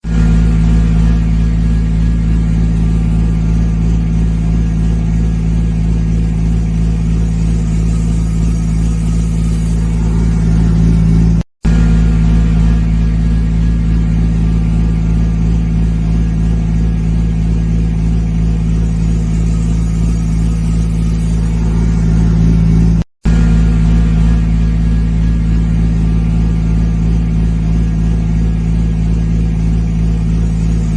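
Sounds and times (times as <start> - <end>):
truck diesel engine running: 0.0 - 30.9.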